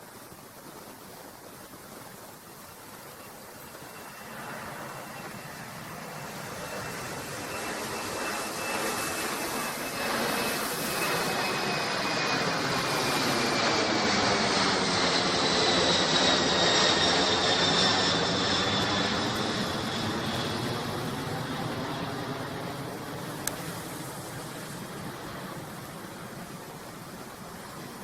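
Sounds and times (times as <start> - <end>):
jet engines rushing and whining: 0.1 - 28.0.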